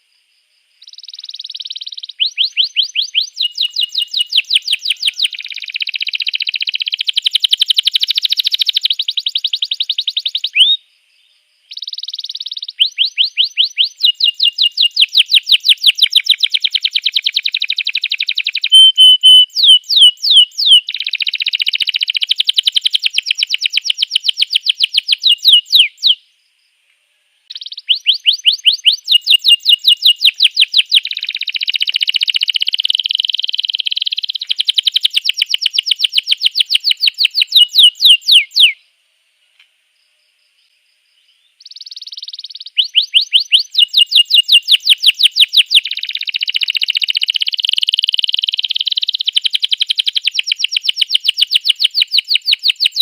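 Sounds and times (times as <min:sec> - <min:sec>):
canary singing trills: 0:00.8 - 0:26.3, 0:27.5 - 0:38.9, 0:41.3 - 0:53.0.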